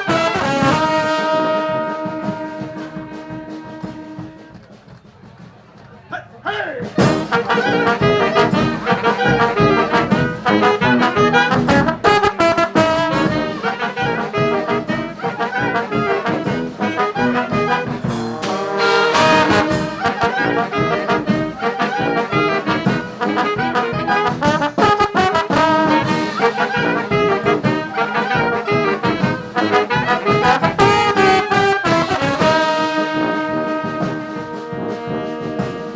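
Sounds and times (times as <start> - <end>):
brass band playing: 0.0 - 35.9.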